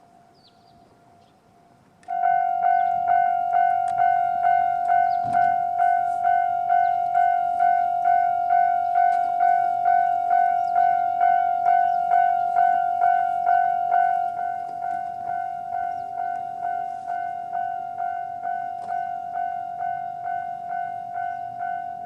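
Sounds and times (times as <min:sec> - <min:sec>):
level-crossing warning bell dinging: 0:00.0 - 0:22.0.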